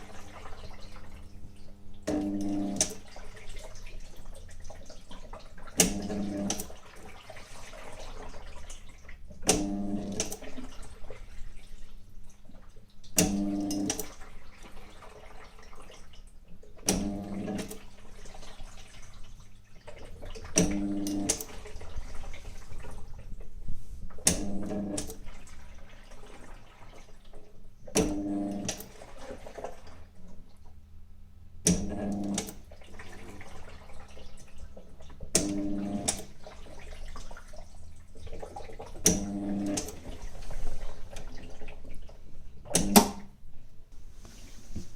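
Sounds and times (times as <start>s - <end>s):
washing machine motor humming: 0.0s - 44.9s.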